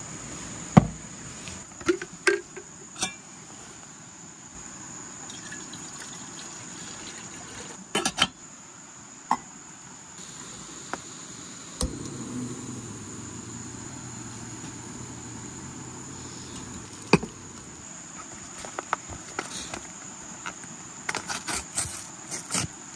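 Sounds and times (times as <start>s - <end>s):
insect chorus: 0.0s - 22.9s.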